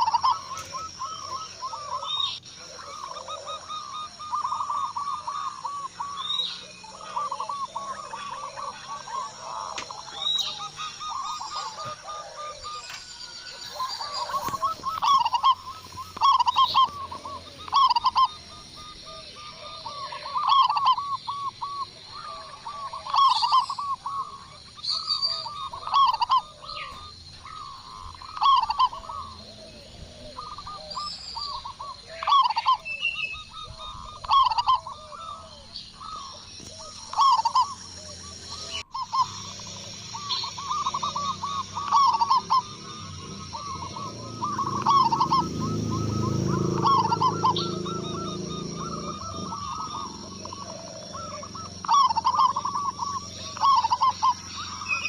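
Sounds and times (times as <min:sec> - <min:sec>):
dove cooing rapidly: 0:00.0 - 0:55.0.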